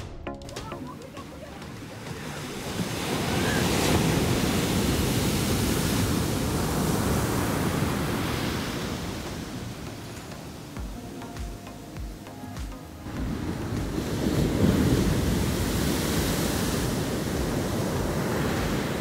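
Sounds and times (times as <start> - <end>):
wave breaking on shore: 0.0 - 10.8, 13.0 - 19.0
foam washing up sand: 1.0 - 10.8, 13.0 - 19.0.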